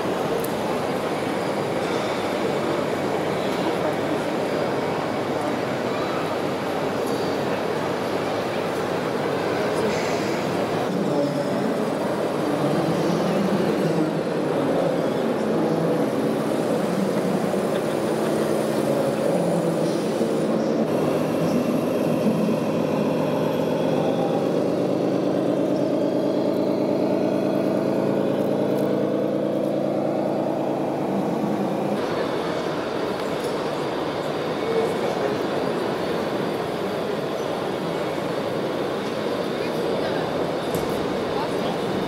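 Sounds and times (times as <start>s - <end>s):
simulated diesel truck engine: 0.0s - 42.0s.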